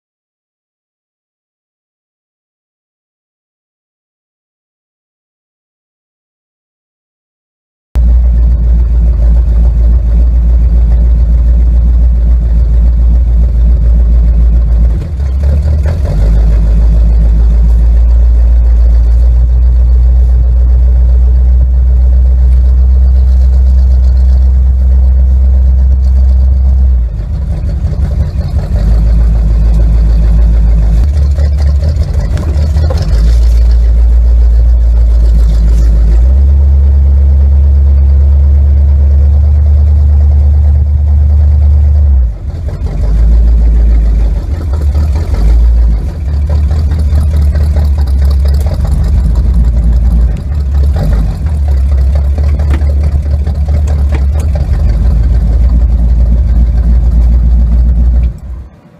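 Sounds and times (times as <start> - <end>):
car engine rumbling: 8.0 - 58.9.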